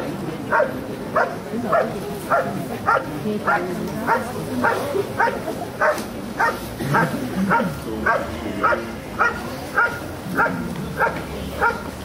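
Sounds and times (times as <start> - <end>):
dog barking sharply: 0.5 - 11.9.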